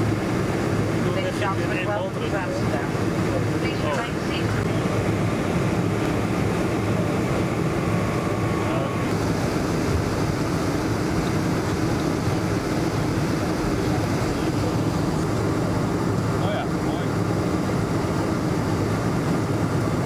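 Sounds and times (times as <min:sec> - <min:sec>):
airplane cabin engine hum: 0:00.0 - 0:20.0.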